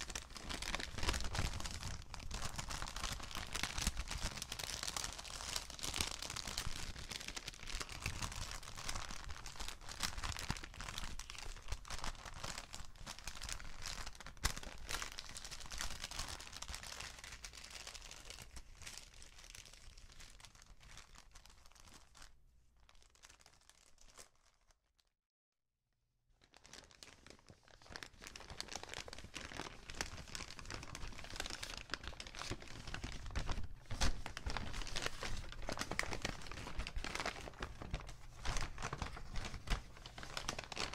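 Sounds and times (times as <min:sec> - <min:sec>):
paper bags crinkling: 0:00.0 - 0:21.3, 0:26.4 - 0:40.9.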